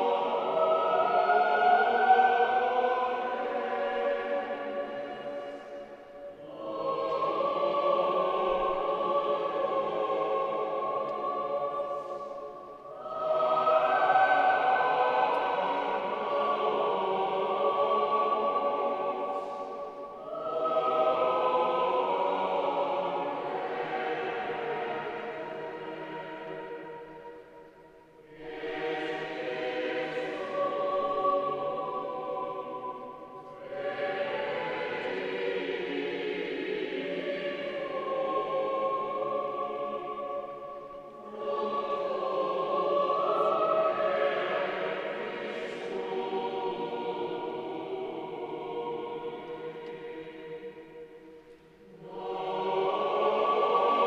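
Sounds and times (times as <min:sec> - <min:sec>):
choir singing sustained chant: 0:00.0 - 0:54.0
choral music held chords: 0:00.0 - 0:54.0.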